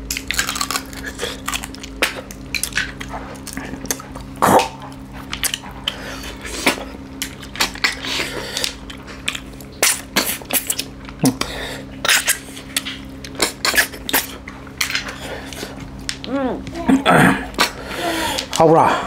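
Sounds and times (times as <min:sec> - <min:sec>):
people eating with wet smacks: 0:00.0 - 0:18.7.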